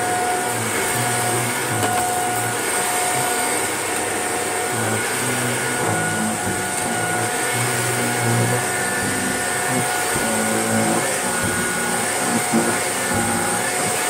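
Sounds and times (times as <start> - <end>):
vacuum cleaner on carpet: 0.0 - 14.0.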